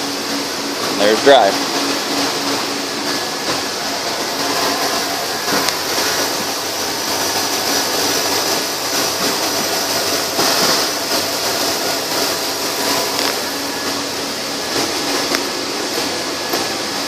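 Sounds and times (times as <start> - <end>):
engine hum with hiss: 0.0 - 17.0.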